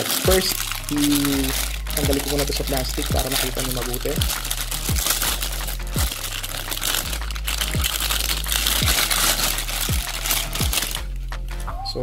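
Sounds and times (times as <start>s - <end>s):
plastic wrapping crinkling: 0.0s - 11.6s
background music with deep beat: 0.0s - 12.0s.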